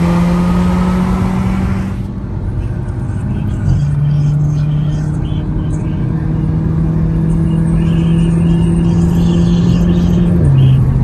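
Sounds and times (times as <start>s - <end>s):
car engine accelerating: 0.0s - 11.0s
road and wind rumble: 0.0s - 11.0s.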